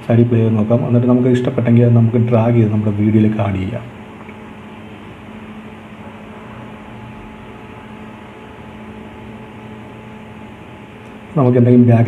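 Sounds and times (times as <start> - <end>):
low hum with hiss: 0.0 - 12.0.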